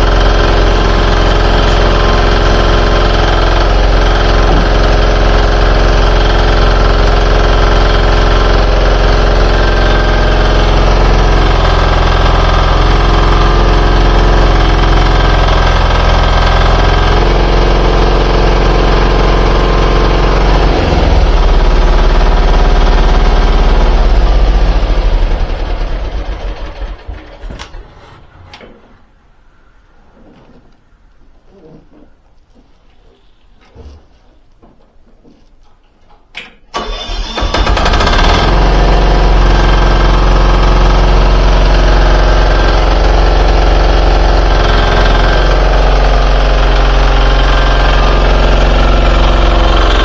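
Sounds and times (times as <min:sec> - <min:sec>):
excavator engine running: 0:00.0 - 0:29.0, 0:36.8 - 0:50.0.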